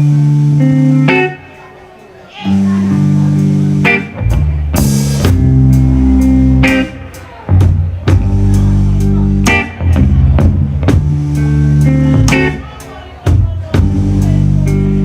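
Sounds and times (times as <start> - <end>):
bass guitar: 0.0 - 1.7, 2.3 - 15.0
electric guitar: 0.0 - 15.0
drum kit beat: 2.5 - 15.0.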